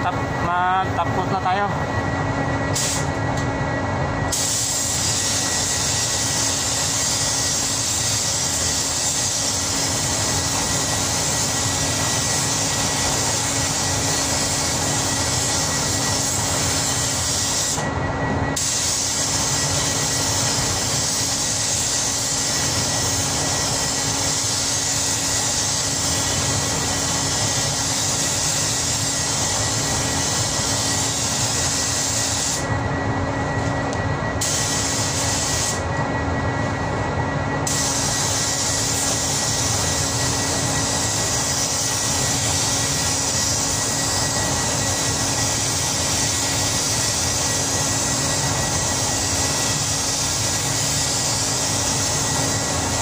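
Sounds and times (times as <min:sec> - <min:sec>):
ventilation hum: 0:00.0 - 0:53.0
spray gun air hissing: 0:02.7 - 0:03.2, 0:04.3 - 0:17.8, 0:18.6 - 0:32.7, 0:34.4 - 0:35.9, 0:37.6 - 0:53.0.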